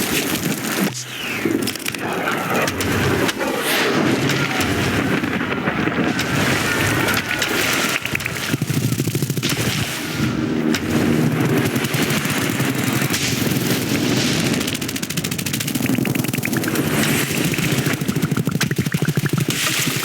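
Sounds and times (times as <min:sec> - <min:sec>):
sharp cracks: 0:00.0 - 0:20.0
dense rapid rattling: 0:01.6 - 0:20.0.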